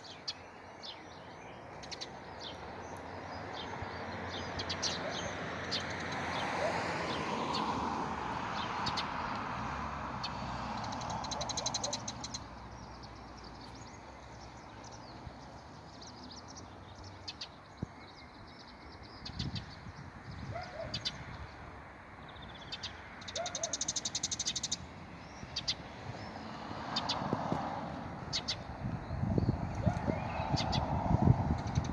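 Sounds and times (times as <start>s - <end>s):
birds singing and trilling: 0.0s - 31.9s.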